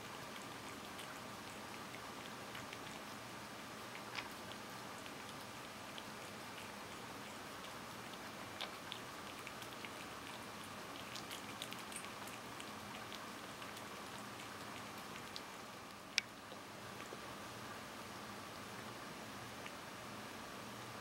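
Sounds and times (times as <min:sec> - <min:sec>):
cat licking wet clicks: 0:00.0 - 0:17.3.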